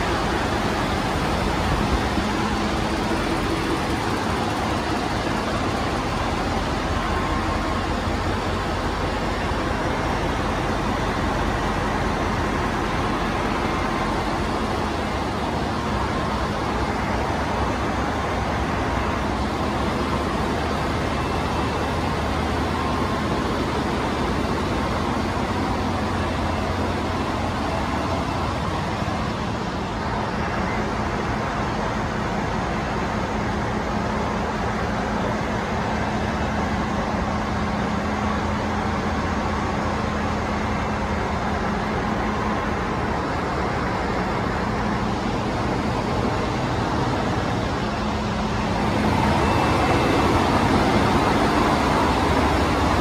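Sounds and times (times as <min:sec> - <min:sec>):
engine room machinery drone: 0:00.0 - 0:53.0.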